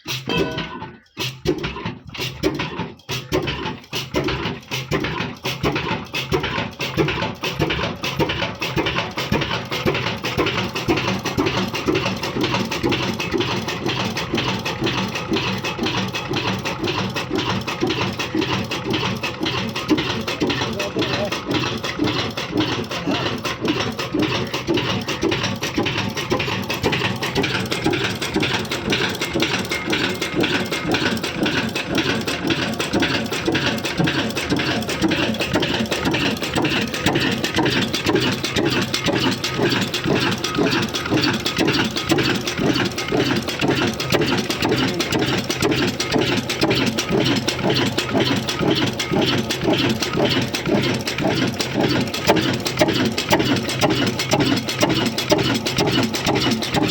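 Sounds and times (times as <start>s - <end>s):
stationary diesel engine running: 0.0s - 56.9s.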